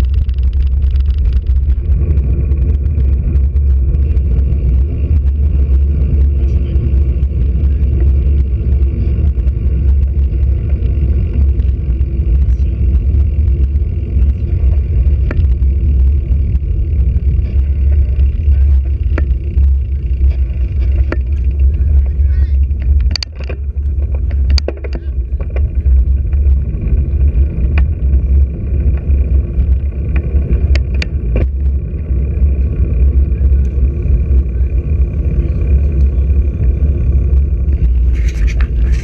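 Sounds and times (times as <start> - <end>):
road and tyre noise: 0.0 - 39.0
wind buffeting microphone: 0.0 - 39.0.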